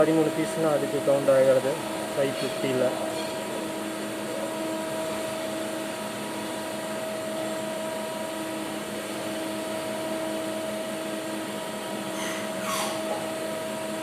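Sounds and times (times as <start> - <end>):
constant machine whine: 0.0 - 14.0
lathe humming: 0.0 - 14.0.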